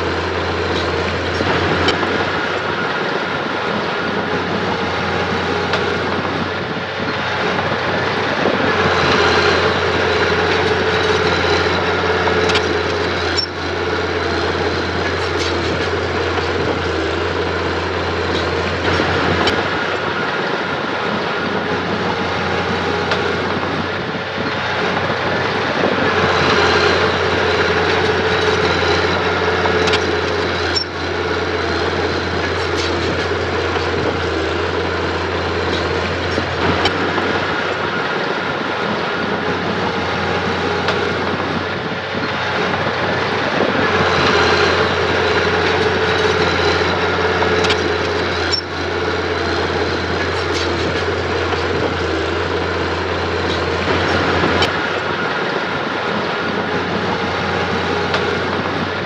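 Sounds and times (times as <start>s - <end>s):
diesel engine under load: 0.0s - 59.0s.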